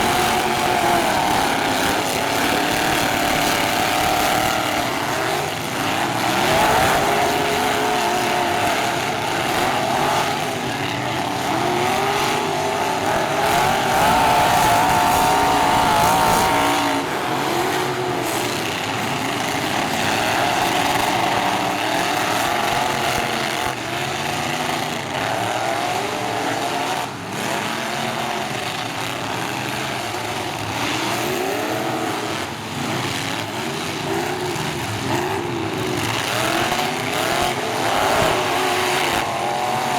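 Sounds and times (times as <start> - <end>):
truck engines revving hard: 0.0 - 39.9.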